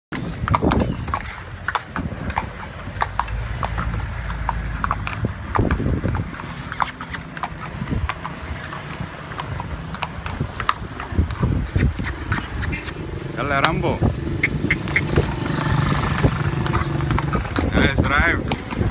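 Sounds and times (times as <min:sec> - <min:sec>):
carriage rolling rumble: 0:00.1 - 0:12.4, 0:13.0 - 0:18.9
hooves clip-clopping on pavement: 0:00.1 - 0:18.9.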